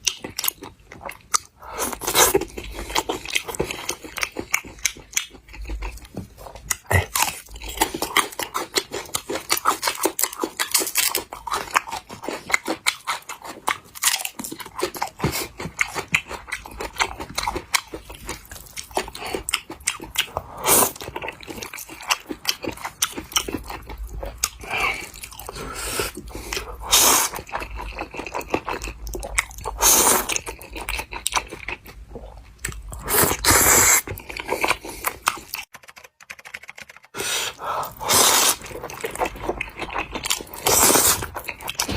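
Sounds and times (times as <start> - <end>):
person chewing noodles: 0.0 - 35.7, 37.1 - 41.9.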